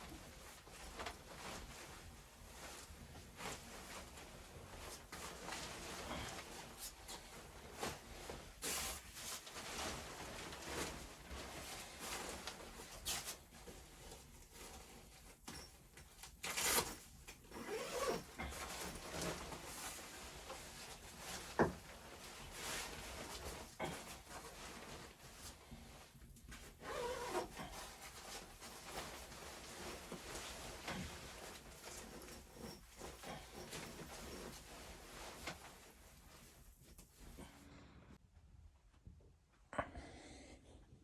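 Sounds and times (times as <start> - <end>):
rustling and scraping handling: 0.0 - 37.5.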